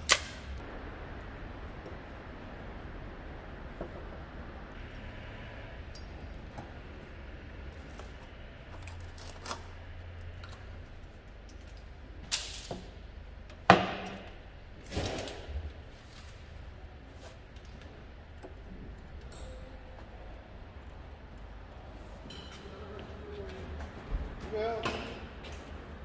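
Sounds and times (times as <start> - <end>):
low hum: 0.0 - 24.4.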